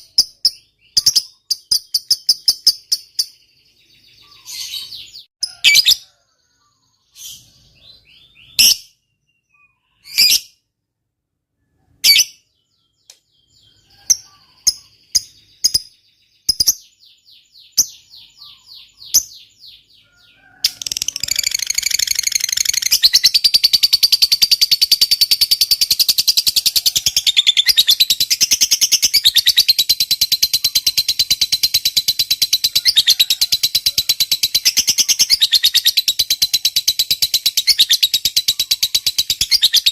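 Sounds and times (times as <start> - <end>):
lovebird chirping and chattering: 0.0 - 6.1, 6.7 - 10.6, 12.0 - 39.9.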